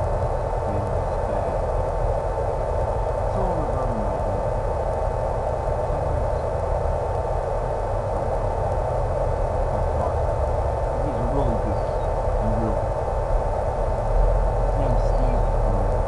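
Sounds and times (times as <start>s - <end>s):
electric motor and propeller whine: 0.0s - 16.0s.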